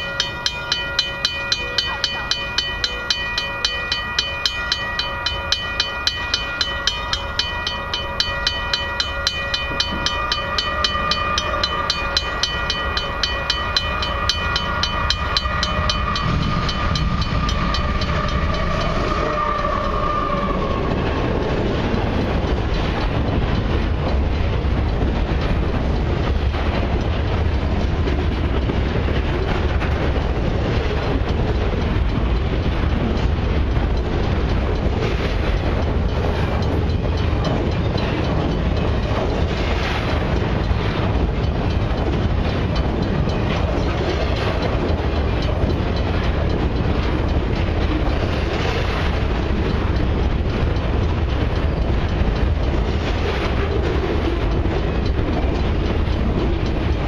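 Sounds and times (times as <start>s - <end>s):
level crossing warning bell: 0.0s - 57.0s
locomotive rumble: 0.0s - 57.0s
train wheels clattering over rail joints: 0.0s - 57.0s.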